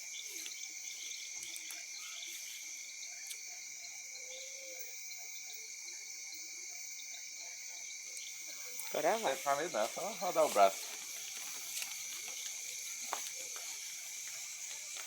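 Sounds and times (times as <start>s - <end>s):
frogs calling: 0.0s - 15.0s
insects trilling: 0.0s - 15.0s.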